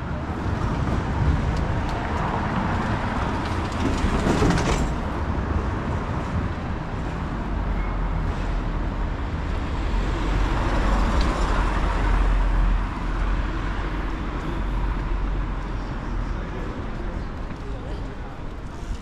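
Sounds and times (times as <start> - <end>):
low rumble of street traffic: 0.0 - 19.0.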